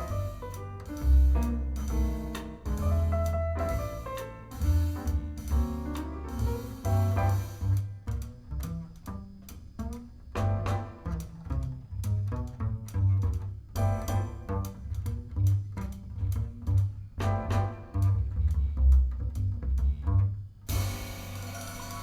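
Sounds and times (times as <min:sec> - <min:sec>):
plucked double bass walking: 0:00.0 - 0:21.7
swing jazz piano: 0:00.0 - 0:22.0.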